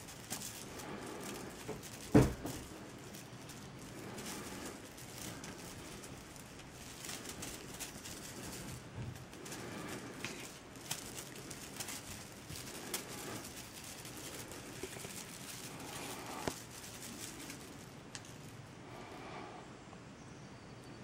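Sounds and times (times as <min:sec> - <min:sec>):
rustling on fabric blanket: 0:00.0 - 0:19.1.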